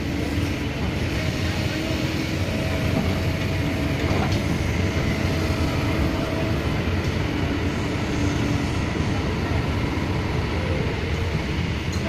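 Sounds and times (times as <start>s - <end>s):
excavator diesel engine rumble: 0.0s - 12.0s.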